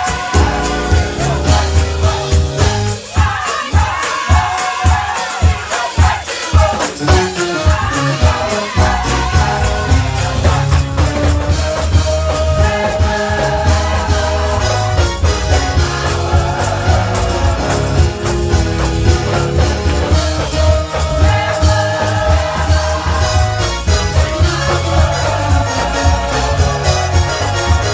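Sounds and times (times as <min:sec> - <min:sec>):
bass keyboard and drums: 0:00.0 - 0:27.9
church choir singing: 0:00.0 - 0:27.9
tambourine shaking a beat: 0:00.0 - 0:27.9.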